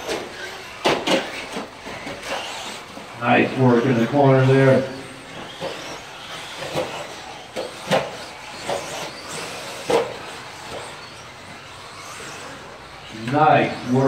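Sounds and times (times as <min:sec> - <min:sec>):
rc truck motors and tyres hiss: 0:00.0 - 0:14.0.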